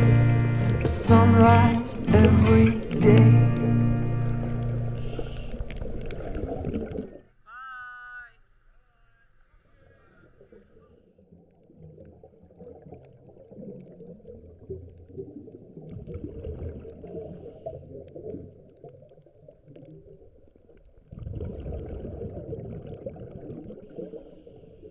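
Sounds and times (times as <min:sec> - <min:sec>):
low rumbling water: 0:00.0 - 0:07.4, 0:09.4 - 0:24.9.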